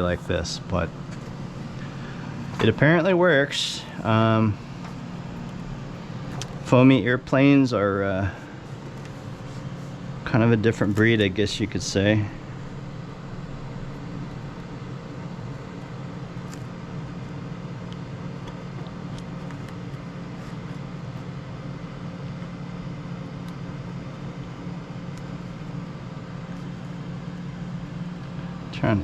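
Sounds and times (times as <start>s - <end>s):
room machinery humming: 0.0s - 29.0s.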